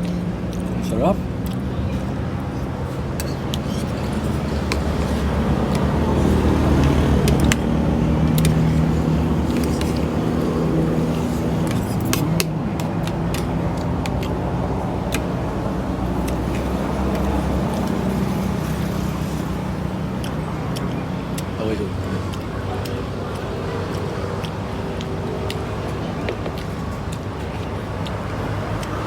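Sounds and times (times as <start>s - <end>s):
road traffic noise: 0.0s - 29.0s
vehicle engine humming: 0.0s - 29.0s.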